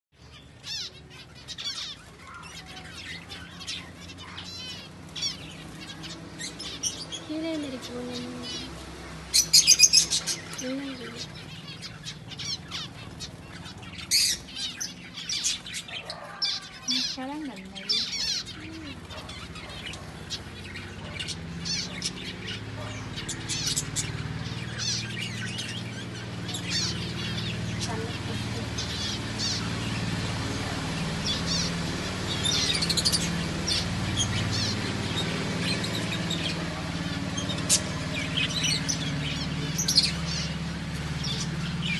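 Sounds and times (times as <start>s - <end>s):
finches chirping: 0.2s - 41.9s.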